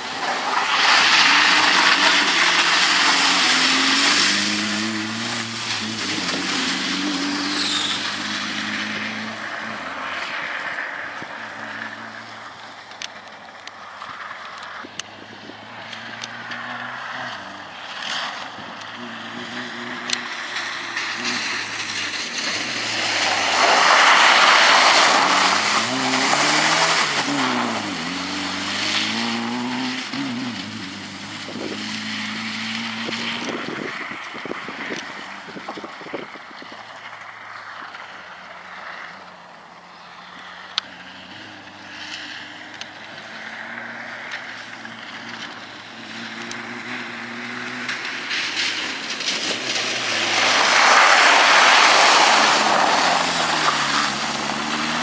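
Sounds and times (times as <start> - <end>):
rally car engine revving: 0.0 - 55.0
spray and tyre noise: 0.0 - 55.0.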